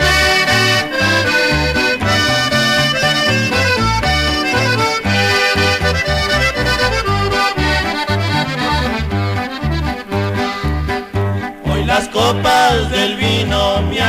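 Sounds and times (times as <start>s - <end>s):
accordion melody: 0.0s - 14.0s
bass line: 0.0s - 14.0s.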